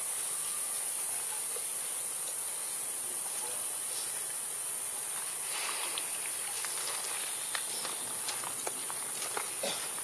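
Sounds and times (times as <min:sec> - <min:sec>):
high-pitched outdoor hiss: 0:00.0 - 0:10.0.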